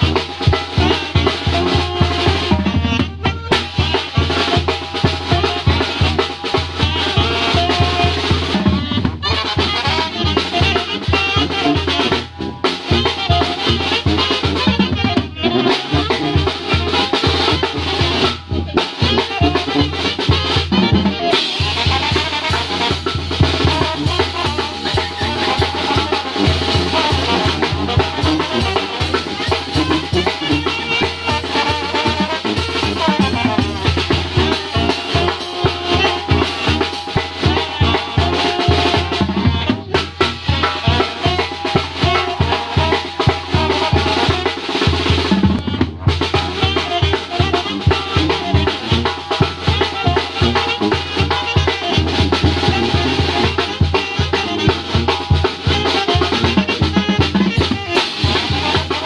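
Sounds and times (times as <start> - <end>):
brass band playing: 0.0 - 59.0
sousaphone bass line: 0.0 - 59.0.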